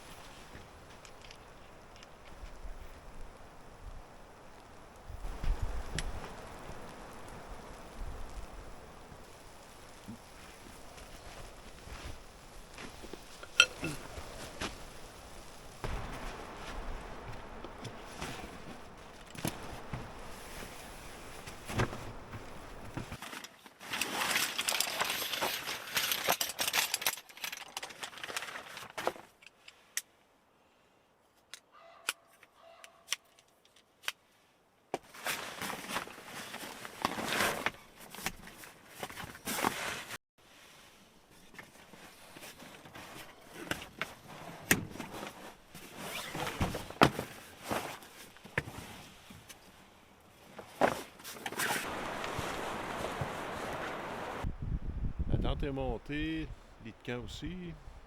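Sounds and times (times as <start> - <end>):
camping gear rustling and clattering: 0.0 - 3.2, 5.2 - 30.1, 32.3 - 54.5.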